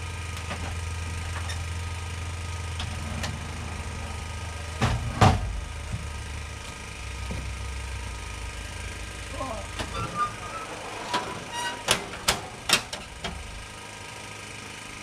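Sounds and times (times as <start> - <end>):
generator engine idling: 0.0 - 15.0.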